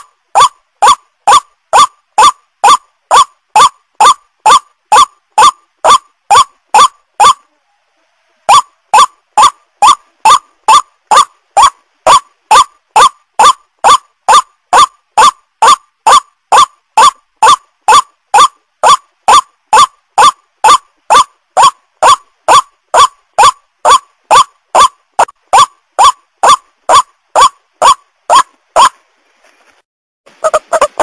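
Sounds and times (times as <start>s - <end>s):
waterhen calling harsh notes: 0.0s - 7.5s, 8.5s - 29.0s, 30.3s - 31.0s.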